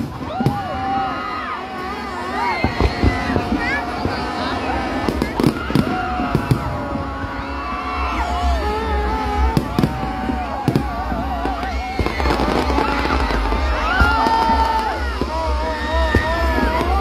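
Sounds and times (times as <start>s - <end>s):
crowd voices: 0.0s - 17.0s
fireworks bursting: 0.0s - 17.0s
music: 0.0s - 17.0s.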